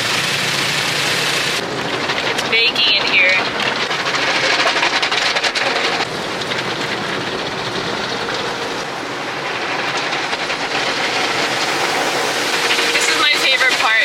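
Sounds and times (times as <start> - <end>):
car wash spraying water: 0.0 - 14.0.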